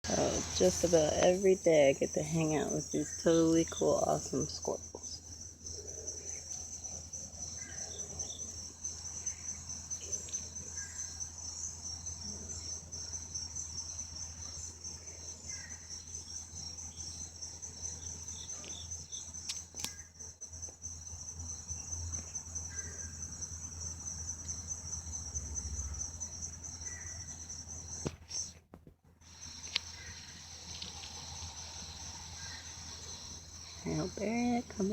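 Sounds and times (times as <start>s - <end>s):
insects trilling: 0.0s - 34.9s
low steady hum: 0.0s - 34.9s.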